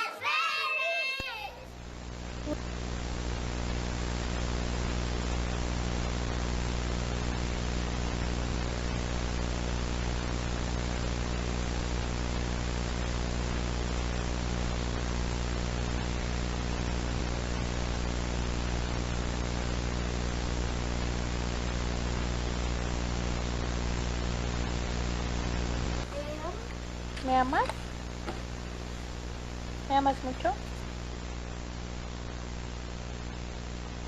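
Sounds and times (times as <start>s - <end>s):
static hiss: 0.0s - 34.0s.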